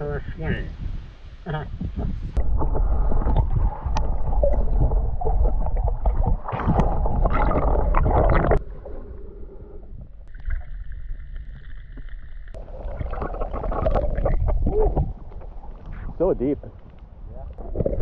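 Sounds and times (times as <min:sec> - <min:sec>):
muffled underwater water sloshing: 0:01.8 - 0:18.0.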